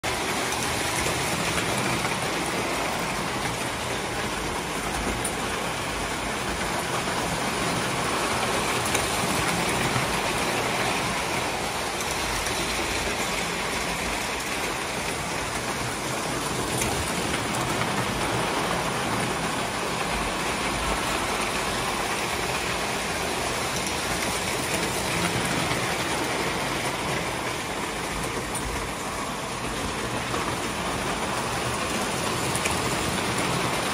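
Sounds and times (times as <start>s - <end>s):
toy train wheels clattering on rails: 0.0s - 33.9s.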